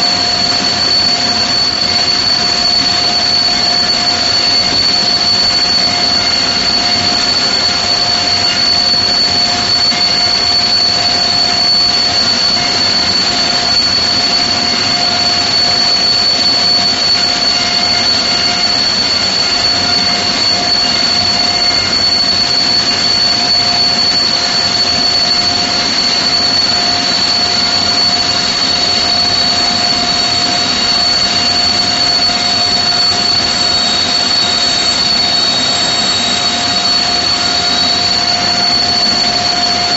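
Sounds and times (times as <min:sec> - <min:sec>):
high-pitched engine whine: 0:00.0 - 0:39.9
turboprop engines running: 0:00.0 - 0:39.9.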